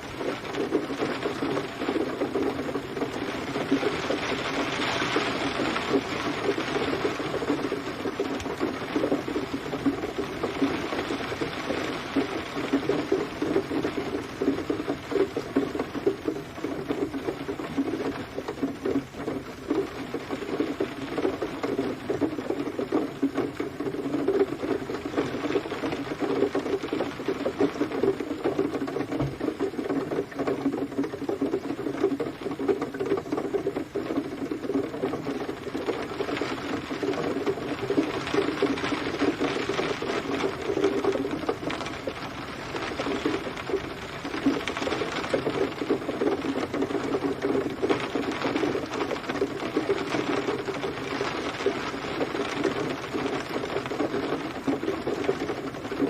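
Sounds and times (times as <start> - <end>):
rain patter on a surface: 0.0 - 56.0.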